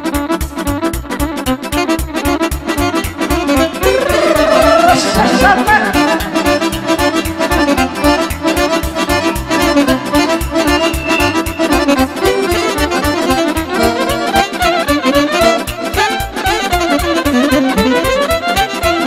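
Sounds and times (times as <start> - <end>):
fast accordion melody: 0.0 - 19.0
driving bass beat: 0.4 - 18.2.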